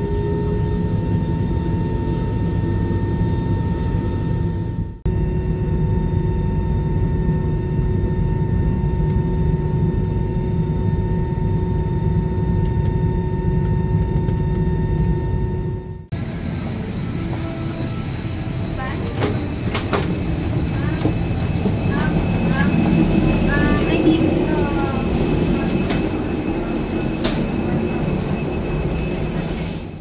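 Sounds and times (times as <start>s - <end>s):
airplane cabin engine drone: 0.0s - 30.0s
constant whine: 0.0s - 30.0s.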